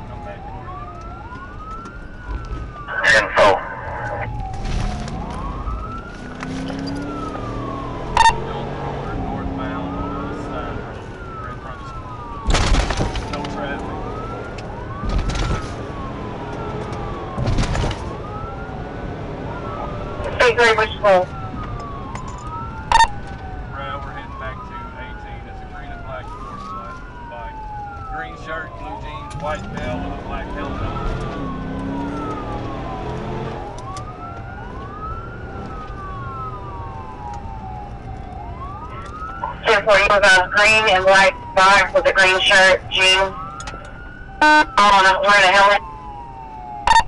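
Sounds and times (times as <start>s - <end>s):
car engine and road noise: 0.0s - 47.0s
police siren wailing: 0.0s - 47.0s.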